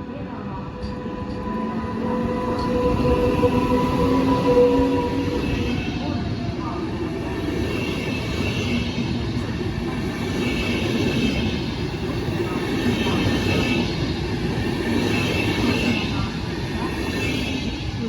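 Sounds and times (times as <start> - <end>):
train rolling on track: 0.0 - 18.0.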